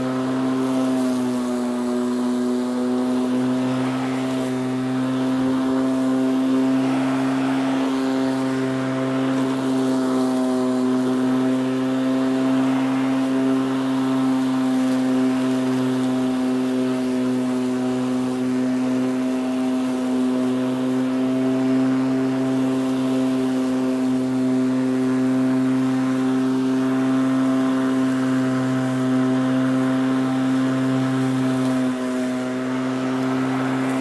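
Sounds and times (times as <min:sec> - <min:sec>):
lawnmower engine running: 0:00.0 - 0:34.0.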